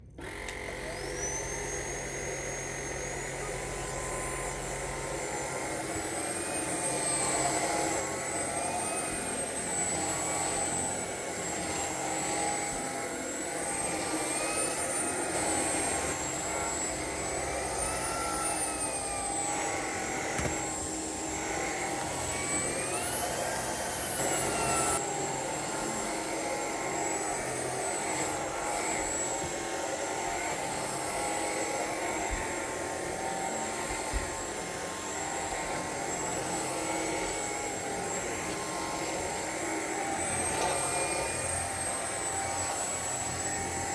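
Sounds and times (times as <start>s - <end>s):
stick vacuum running: 0.0s - 43.9s.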